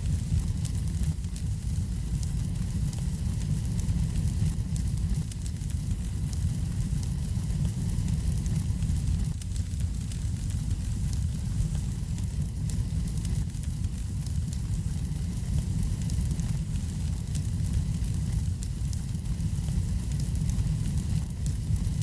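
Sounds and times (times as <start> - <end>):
fire rumble: 0.0 - 22.0
wood fire crackling: 0.0 - 22.0.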